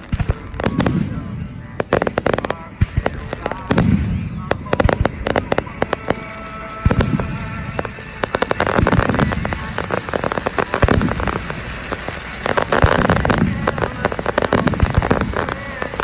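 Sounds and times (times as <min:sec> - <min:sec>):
dense fireworks crackling: 0:00.0 - 0:16.0
fireworks bursting with deep booms: 0:00.0 - 0:16.0.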